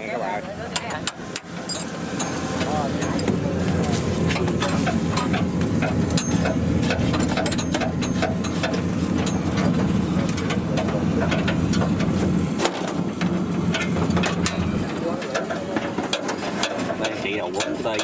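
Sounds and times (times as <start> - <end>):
combine harvester engine running: 0.0 - 18.0
machinery clicks and knocks: 0.7 - 18.0.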